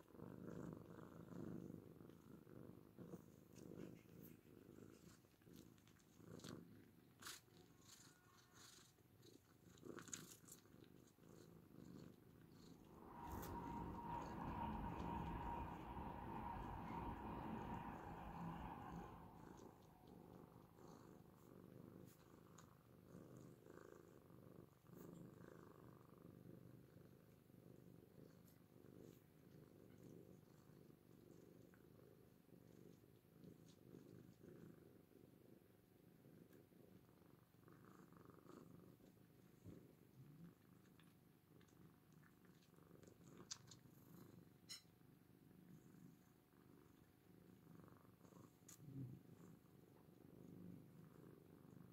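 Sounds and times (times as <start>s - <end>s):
cats purring: 0.0s - 51.9s.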